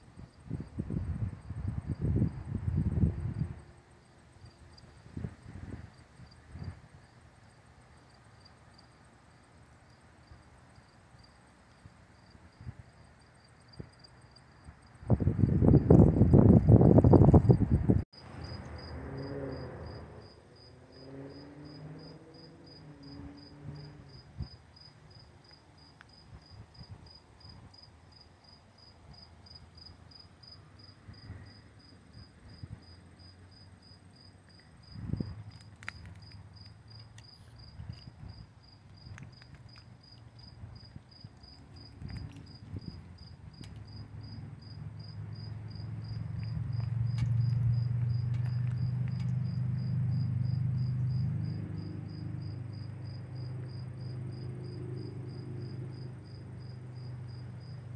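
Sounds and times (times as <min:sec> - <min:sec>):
cricket chirping: 0:00.0 - 0:57.9
faint outdoor background: 0:00.0 - 0:57.9.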